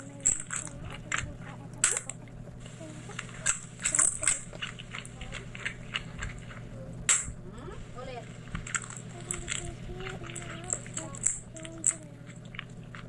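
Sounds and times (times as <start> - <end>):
crunchy chewing: 0.0 - 7.4, 8.2 - 13.0
steady low hum: 0.0 - 13.0.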